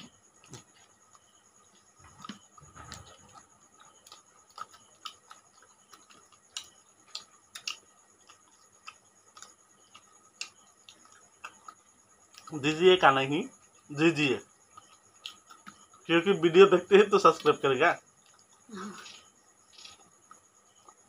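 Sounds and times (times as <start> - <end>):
chewing and eating by hand: 0.0 - 12.7, 13.6 - 16.1, 17.3 - 21.0.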